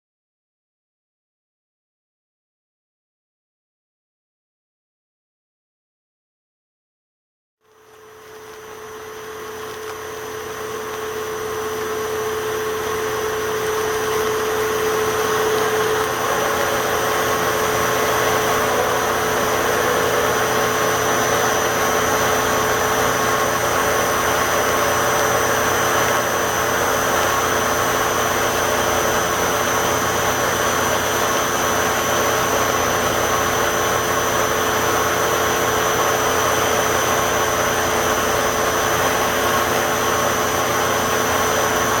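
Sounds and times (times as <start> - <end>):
machinery hums and whines: 7.7 - 42.0.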